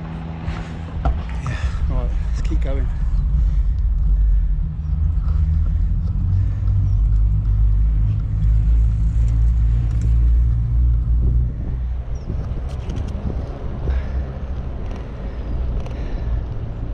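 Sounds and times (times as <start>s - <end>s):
loud low rumble: 0.0s - 16.9s.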